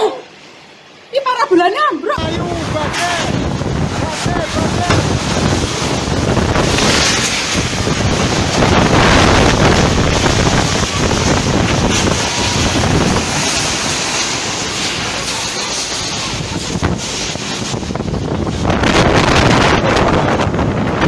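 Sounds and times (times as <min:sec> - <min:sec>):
strong wind blasting microphone: 0:02.1 - 0:21.0.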